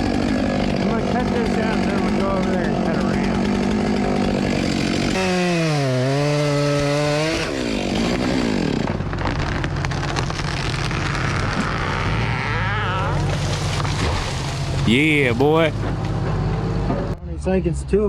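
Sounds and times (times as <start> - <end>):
chainsaw cutting wood: 0.0 - 16.1.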